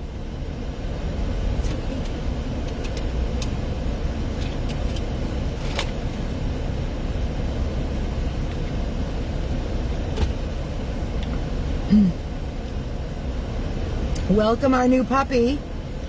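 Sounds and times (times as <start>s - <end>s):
car driving rumble inside cabin: 0.0s - 16.0s.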